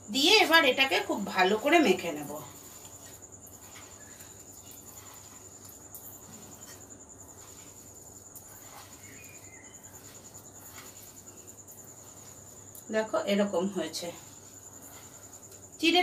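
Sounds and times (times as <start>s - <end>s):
high-pitched insect trill: 0.0s - 16.0s
hands mixing rice in bowl: 0.2s - 16.0s.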